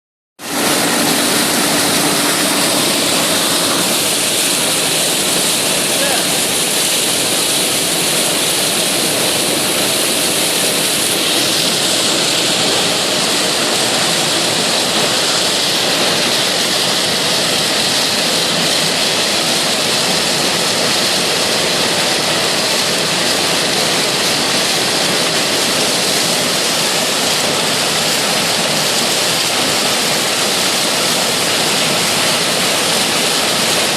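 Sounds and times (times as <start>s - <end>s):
combine harvester rushing noise: 0.4s - 33.9s.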